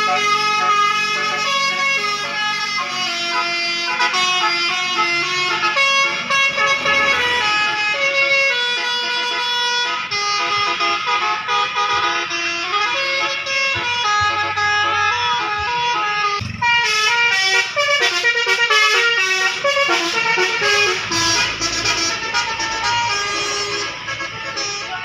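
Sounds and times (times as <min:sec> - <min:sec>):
bus air horn playing a tune: 0:00.0 - 0:25.0.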